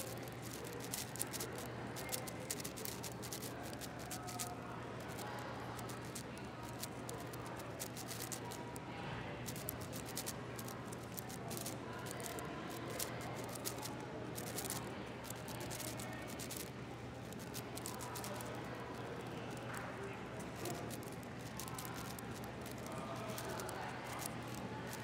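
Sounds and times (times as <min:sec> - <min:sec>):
speed cube clicking: 0:00.0 - 0:04.5, 0:05.1 - 0:08.7, 0:09.5 - 0:16.7, 0:17.3 - 0:18.5, 0:20.6 - 0:25.0.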